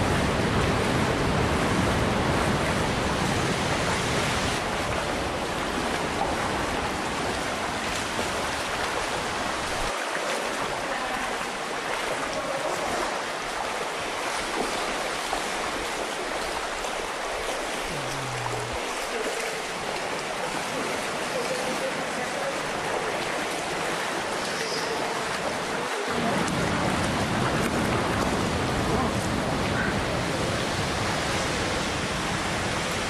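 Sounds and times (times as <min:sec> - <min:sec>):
flowing water rushing: 0:00.0 - 0:33.0.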